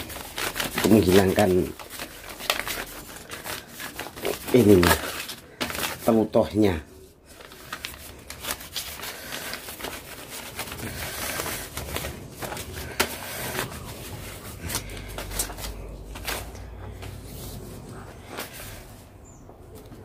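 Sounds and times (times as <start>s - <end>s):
scraping and rustling: 0.0s - 20.0s.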